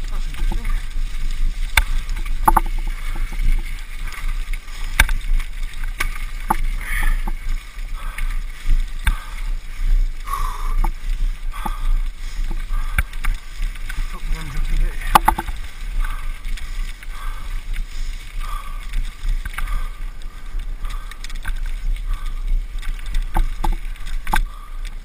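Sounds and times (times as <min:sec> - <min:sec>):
bike clicks and rattles: 0:00.0 - 0:25.0
tyres rolling on dirt track: 0:00.0 - 0:25.0
wind rumbling on microphone: 0:00.0 - 0:25.0.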